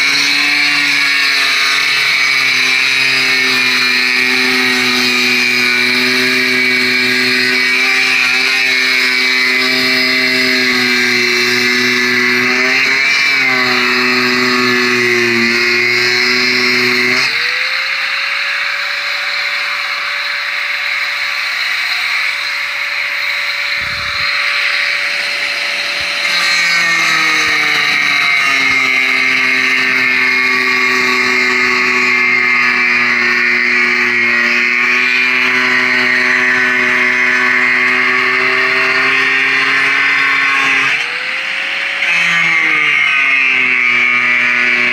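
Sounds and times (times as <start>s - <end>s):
angle grinder sanding wood: 0.0s - 44.9s.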